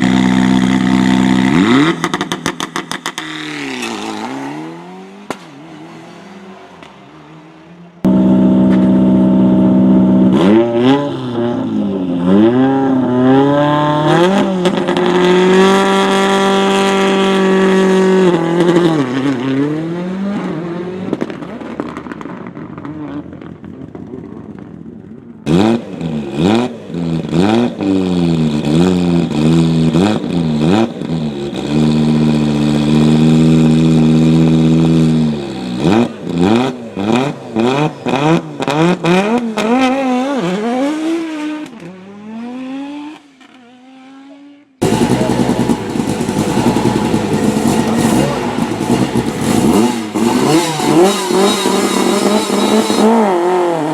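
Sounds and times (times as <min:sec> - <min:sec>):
rally car engines revving: 0:00.0 - 0:53.9
rough-running rally car: 0:00.0 - 0:53.9.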